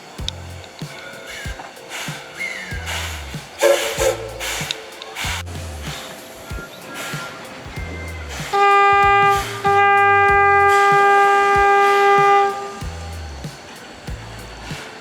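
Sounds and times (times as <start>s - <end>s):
background music: 0.0s - 15.0s
steam locomotive whistle: 1.3s - 14.0s.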